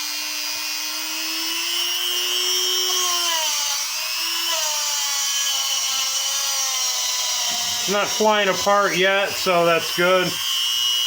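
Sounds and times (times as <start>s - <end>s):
rotary tool motor whine: 0.0s - 11.0s.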